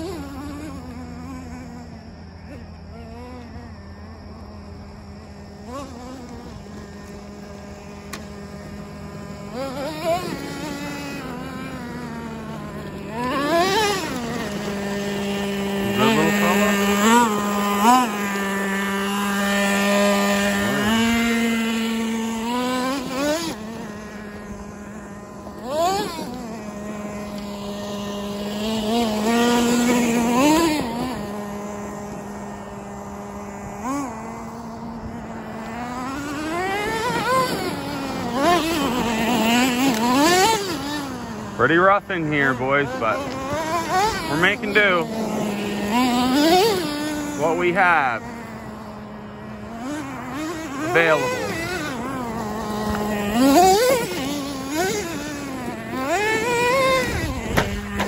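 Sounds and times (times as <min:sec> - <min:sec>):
model truck engine revving: 0:00.0 - 0:58.0.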